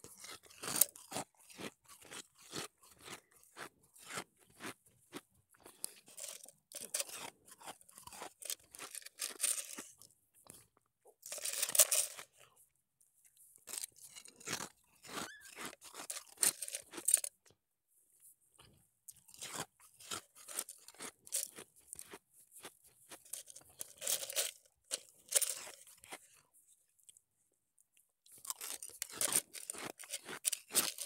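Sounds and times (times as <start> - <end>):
ice being crunched and chewed: 0.0 - 12.6, 13.2 - 17.6, 18.6 - 27.2, 27.9 - 31.0.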